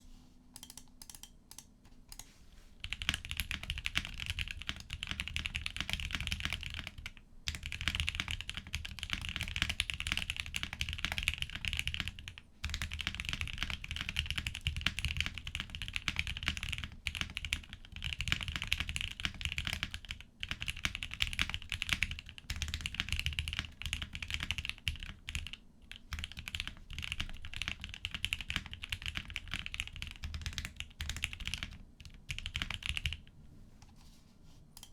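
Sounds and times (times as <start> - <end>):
typing on mechanical keyboard: 2.8 - 33.2.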